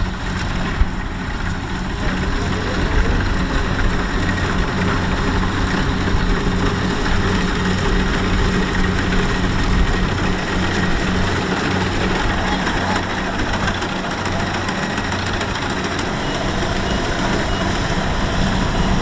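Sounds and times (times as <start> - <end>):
combine harvester diesel engine: 0.0 - 19.0
harvester machinery noise: 0.0 - 19.0.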